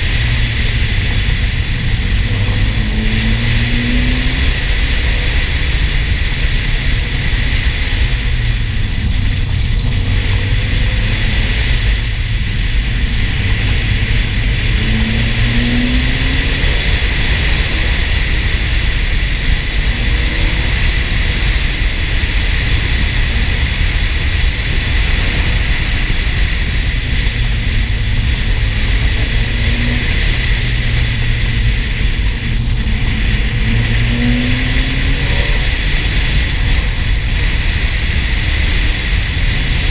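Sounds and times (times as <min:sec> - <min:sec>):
car engine accelerating: 0:00.0 - 0:39.9
tyre and wind noise: 0:00.0 - 0:39.9.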